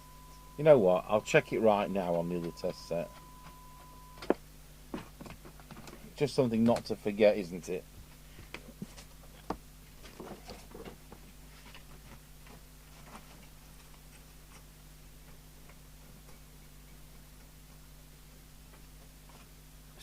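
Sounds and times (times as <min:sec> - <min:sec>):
low mains hum: 0:00.0 - 0:20.0.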